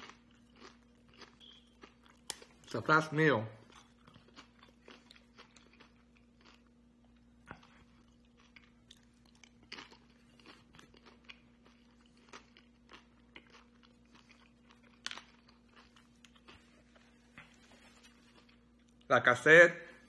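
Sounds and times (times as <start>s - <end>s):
person chewing crunchy food: 0.0s - 2.9s, 3.6s - 19.1s
low steady hum: 0.0s - 20.0s.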